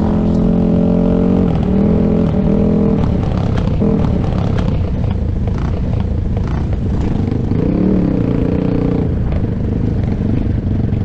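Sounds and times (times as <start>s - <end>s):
off-road engine running: 0.0s - 11.0s.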